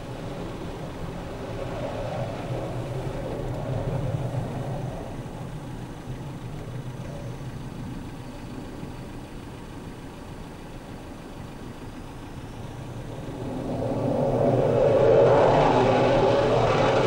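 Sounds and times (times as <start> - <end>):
jet engines in afterburner: 0.0 - 17.0.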